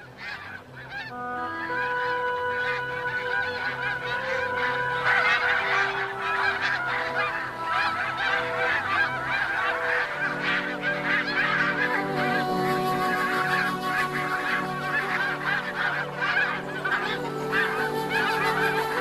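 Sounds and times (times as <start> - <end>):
geese honking: 0.0 - 19.0
soft background music: 0.0 - 19.0.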